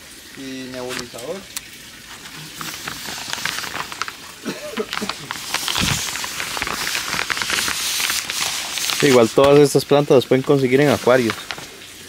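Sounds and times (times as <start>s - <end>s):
plastic sheeting crackling: 0.4s - 12.0s.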